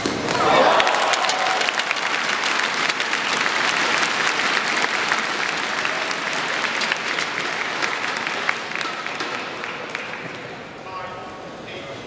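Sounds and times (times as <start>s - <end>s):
crowd clapping: 0.0s - 10.6s.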